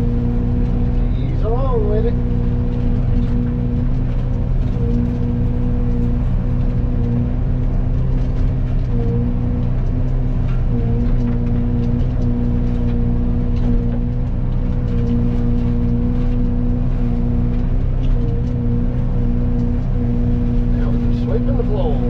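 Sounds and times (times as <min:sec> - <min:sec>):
forestry mulcher machine hum: 0:00.0 - 0:22.0.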